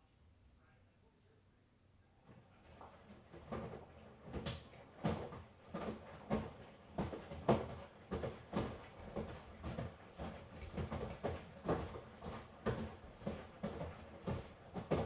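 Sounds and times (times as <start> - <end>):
laundry tumbling in washing machine: 2.2 - 15.0.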